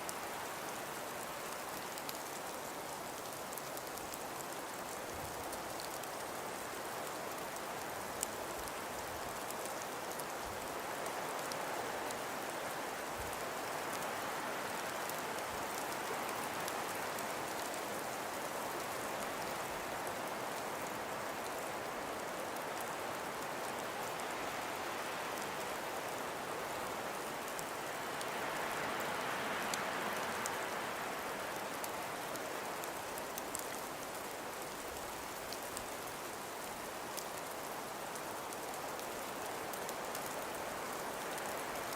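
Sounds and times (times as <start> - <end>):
faint light ticks: 0.0 - 41.9
wind with blowing snow: 0.0 - 41.9.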